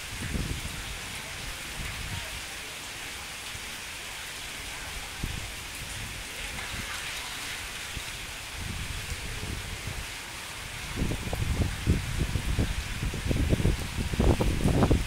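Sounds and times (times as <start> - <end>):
rain on pavement: 0.0 - 15.0.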